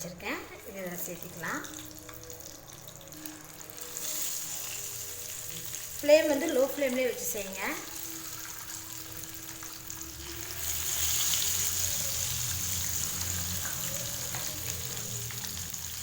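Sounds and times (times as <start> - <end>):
eggs sizzling in oil: 0.0 - 16.0.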